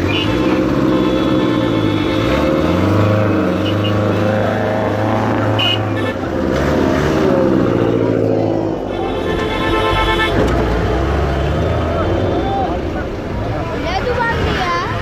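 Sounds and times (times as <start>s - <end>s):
off-road vehicle engines idling: 0.0s - 15.0s.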